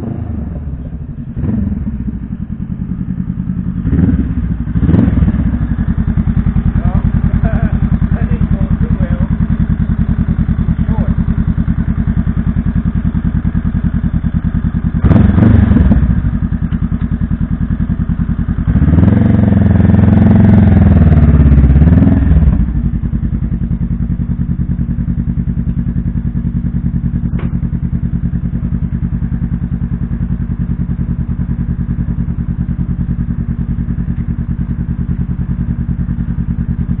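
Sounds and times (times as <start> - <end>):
motorcycle engine idling and revving: 0.0 - 37.0.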